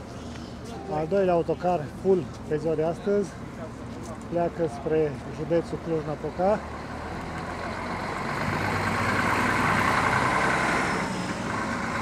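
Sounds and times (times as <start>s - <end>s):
bus diesel engine: 0.0s - 12.0s.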